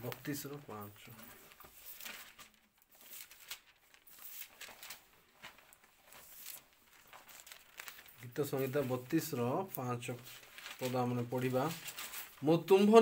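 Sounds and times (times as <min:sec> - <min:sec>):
thin paper pages rustling: 0:00.0 - 0:13.0.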